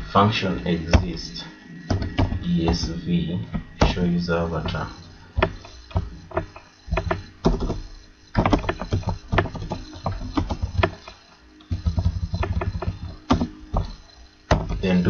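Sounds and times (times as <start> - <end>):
computer keyboard typing: 1.8 - 15.0.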